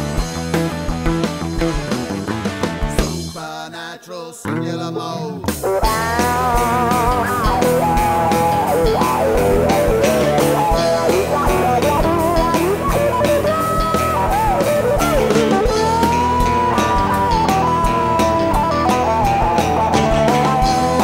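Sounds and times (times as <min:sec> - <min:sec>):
electric guitar lead line: 0:00.0 - 0:03.4, 0:04.5 - 0:21.0
bass: 0:00.0 - 0:03.5, 0:04.5 - 0:21.0
drum beat: 0:00.0 - 0:03.5, 0:05.4 - 0:21.0.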